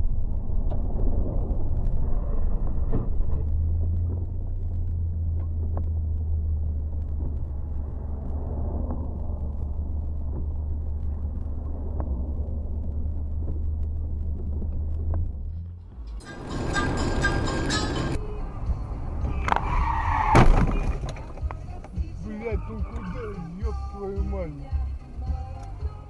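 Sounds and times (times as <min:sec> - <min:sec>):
car engine and tyre rumble on wet road: 0:00.0 - 0:26.0.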